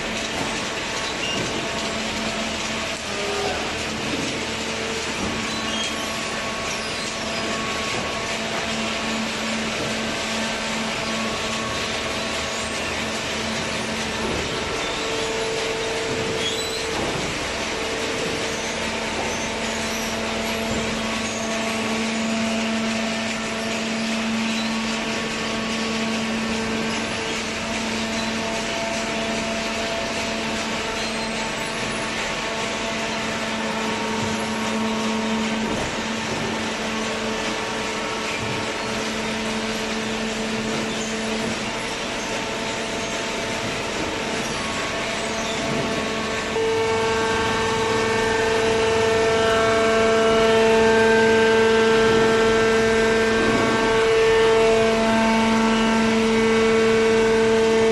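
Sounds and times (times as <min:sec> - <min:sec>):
machine hum with low whine: 0:00.0 - 0:57.9.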